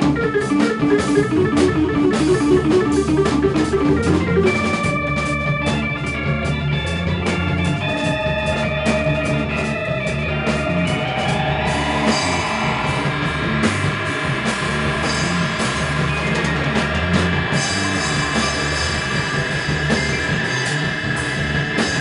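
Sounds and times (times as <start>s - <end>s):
drum kit: 0.0s - 22.0s
electric bass: 0.0s - 22.0s
electric guitar: 0.0s - 22.0s.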